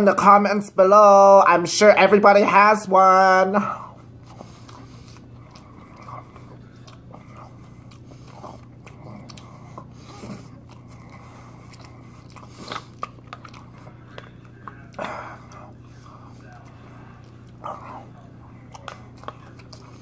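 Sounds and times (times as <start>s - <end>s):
quiet chewing clicks: 3.7s - 20.0s.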